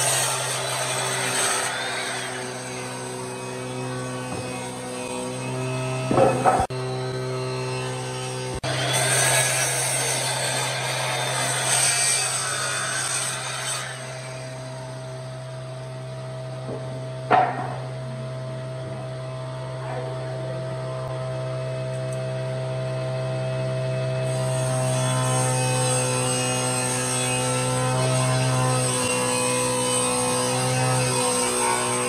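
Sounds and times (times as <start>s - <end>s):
mitre saw cutting wood: 0.0s - 32.0s.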